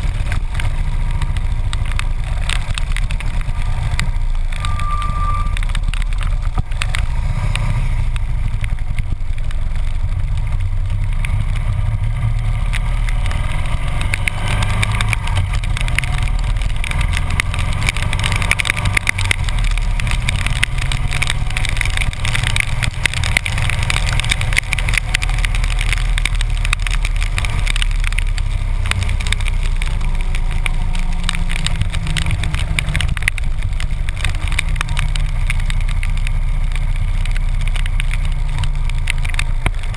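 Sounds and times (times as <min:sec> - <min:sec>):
motorcycle engine cruising: 0:00.0 - 0:39.9
raindrops ticking on camera: 0:00.0 - 0:39.9
wind rumble: 0:00.0 - 0:39.9.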